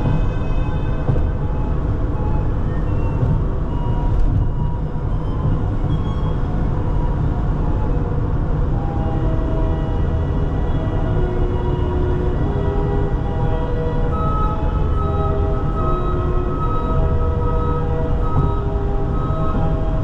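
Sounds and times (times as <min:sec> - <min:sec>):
instrumental music held notes: 0:00.0 - 0:20.0
low rumble: 0:00.0 - 0:20.0.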